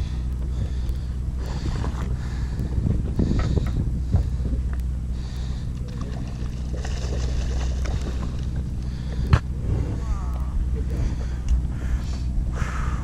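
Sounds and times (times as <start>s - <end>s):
boat engine droning: 0.0s - 13.0s
wind and water wash: 0.0s - 13.0s.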